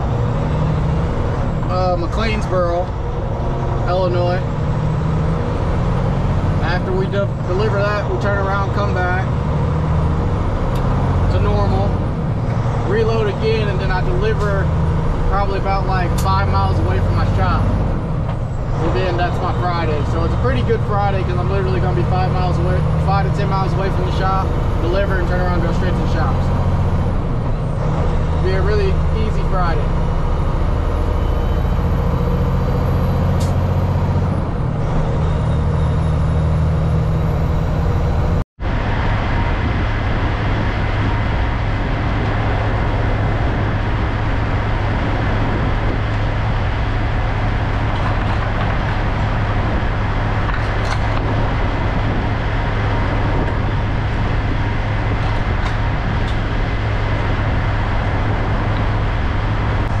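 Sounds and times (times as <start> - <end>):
road noise: 0.0 - 60.0
truck diesel engine drone: 0.0 - 60.0.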